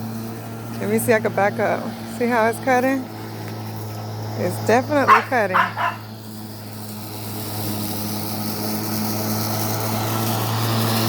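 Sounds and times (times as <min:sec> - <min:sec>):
electric lawn mower running: 0:00.0 - 0:11.0.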